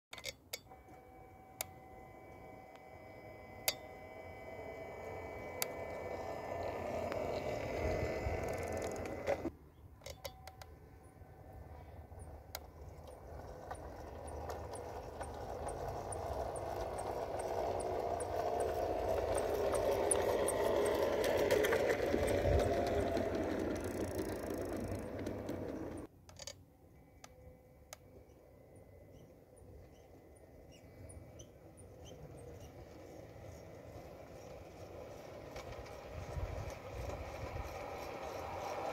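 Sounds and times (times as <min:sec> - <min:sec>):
metal wheels rolling on rails: 0:00.1 - 0:26.1, 0:29.3 - 0:38.9
model train motor whirring: 0:00.7 - 0:09.5, 0:10.6 - 0:26.5, 0:27.2 - 0:38.9.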